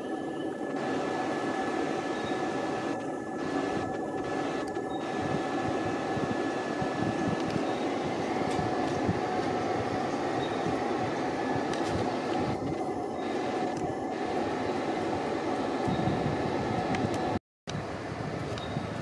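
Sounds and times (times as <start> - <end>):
high-pitched whine: 0.0 - 19.0
train rumble: 0.0 - 19.0.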